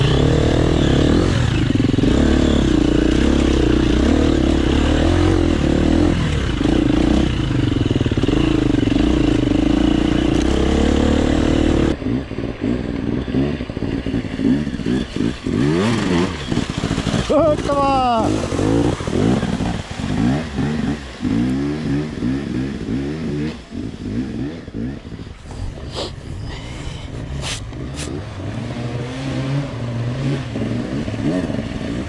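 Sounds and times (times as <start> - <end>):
dirt bike engines revving: 0.0 - 32.0
motorcycle engine running: 0.0 - 32.0.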